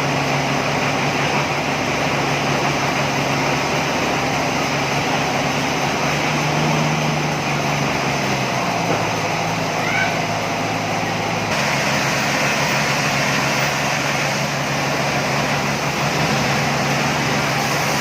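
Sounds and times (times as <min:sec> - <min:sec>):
engine drone: 0:00.0 - 0:18.0
noisy machinery whirr: 0:00.0 - 0:18.0.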